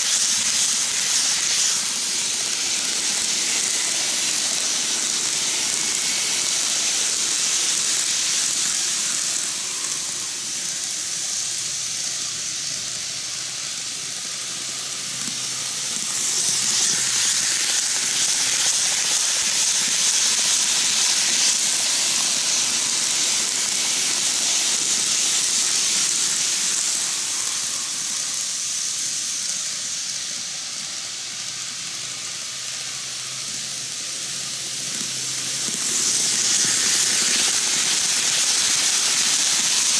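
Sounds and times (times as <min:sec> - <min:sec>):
model train wheels hissing on rails: 0:00.0 - 0:39.9.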